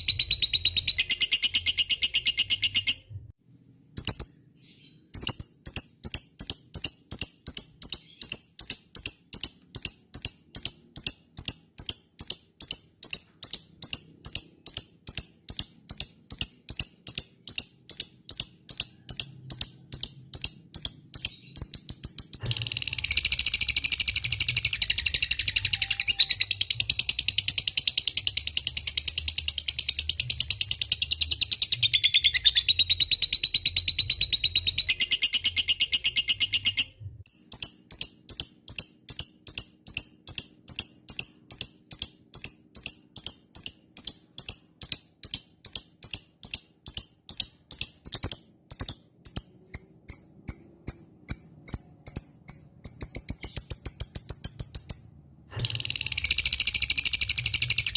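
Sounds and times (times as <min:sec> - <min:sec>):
lovebird chirping and trilling: 0:00.0 - 0:03.2, 0:04.0 - 0:57.9.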